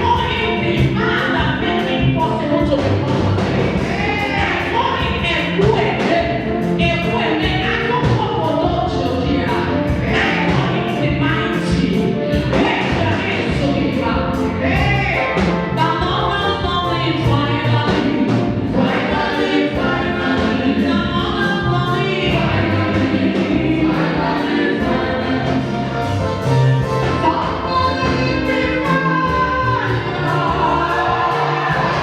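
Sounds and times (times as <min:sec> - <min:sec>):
gospel choir singing: 0:00.0 - 0:32.0
instrumental backing music: 0:00.0 - 0:32.0.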